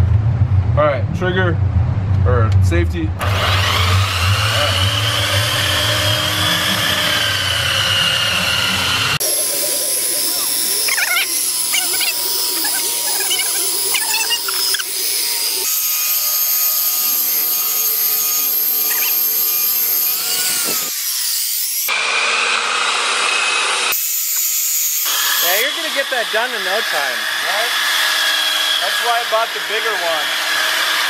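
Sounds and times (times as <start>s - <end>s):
belt sander sanding wood: 3.2s - 31.0s.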